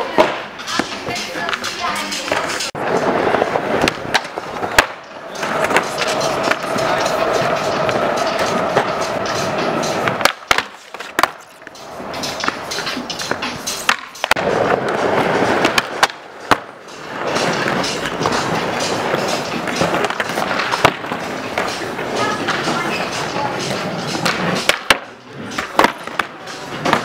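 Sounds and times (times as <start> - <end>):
skateboard clacks: 0.0 - 27.0
skateboard wheels rolling: 0.0 - 27.0.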